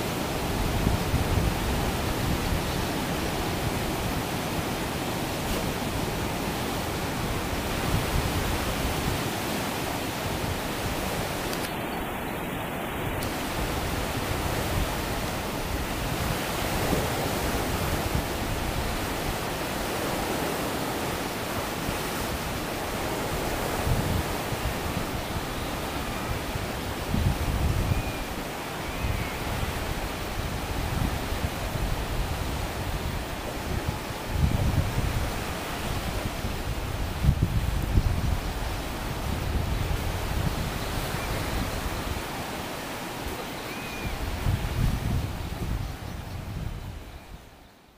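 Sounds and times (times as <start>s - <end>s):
turbulent river water surging: 0.0s - 47.6s.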